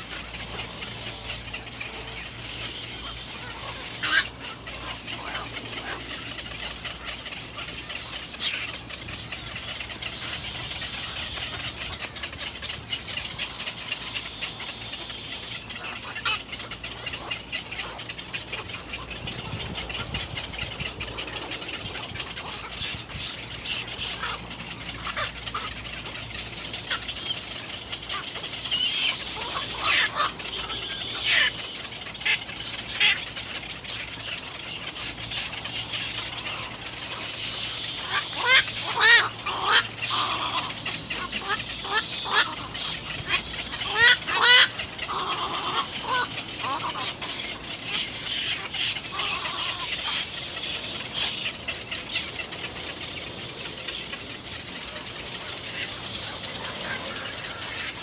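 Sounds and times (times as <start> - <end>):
birds chattering: 0.0 - 58.0
harsh repeated bird calls: 0.0 - 58.0.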